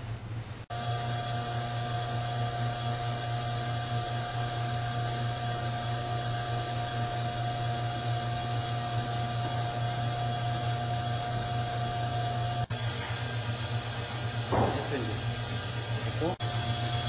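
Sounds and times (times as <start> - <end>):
brake lathe motor hum and whine: 0.7 - 17.0.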